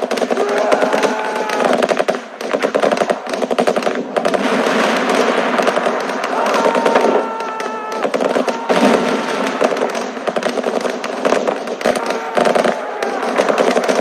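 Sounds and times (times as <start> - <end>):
rapid gunfire: 0.0 - 14.0.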